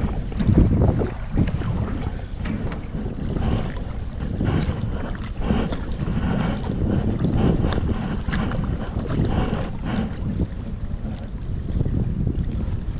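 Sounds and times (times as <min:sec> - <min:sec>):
paddle strokes splashing water: 0:00.0 - 0:12.9
wind buffeting microphone: 0:00.0 - 0:12.9.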